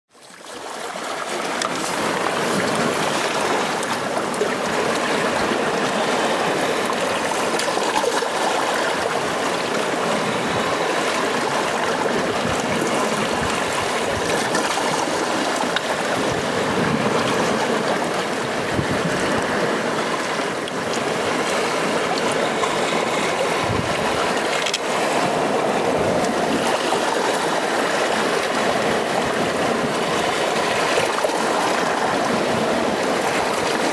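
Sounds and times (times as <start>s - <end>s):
sea waves washing on shore: 0.1s - 33.9s.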